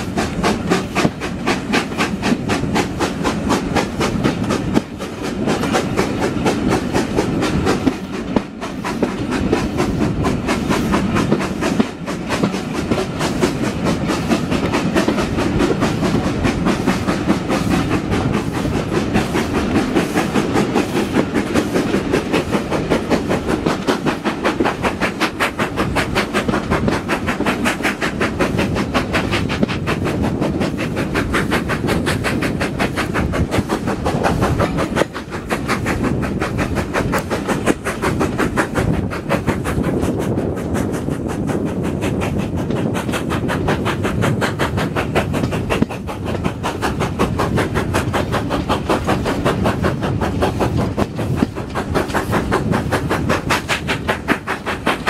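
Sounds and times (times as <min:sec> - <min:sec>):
carriage wheels rumbling on rails: 0:00.0 - 0:55.0
steam locomotive exhaust beats: 0:00.0 - 0:55.0.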